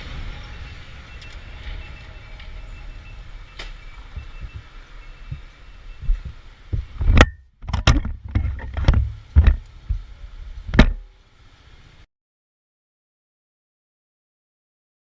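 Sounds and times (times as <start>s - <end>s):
low road rumble: 0.0s - 12.1s.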